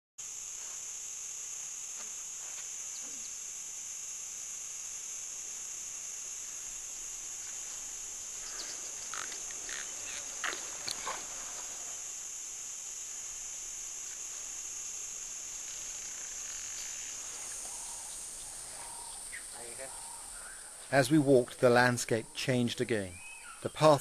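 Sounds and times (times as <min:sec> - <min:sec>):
high-pitched insect drone: 0:00.2 - 0:24.0.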